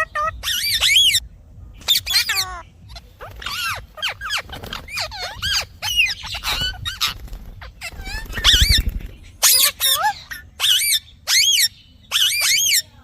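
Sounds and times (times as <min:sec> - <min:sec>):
parakeet chattering: 0:00.0 - 0:01.2, 0:01.8 - 0:13.0.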